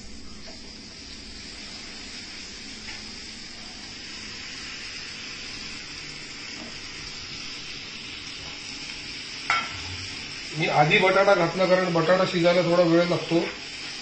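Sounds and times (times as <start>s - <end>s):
masala sizzling in frying pan: 0.0s - 14.0s.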